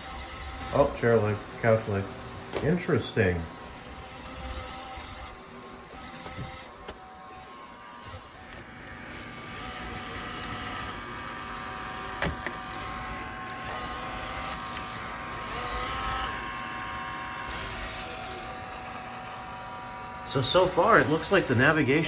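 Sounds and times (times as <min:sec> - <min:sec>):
robot vacuum motor whirring: 0:00.0 - 0:22.0.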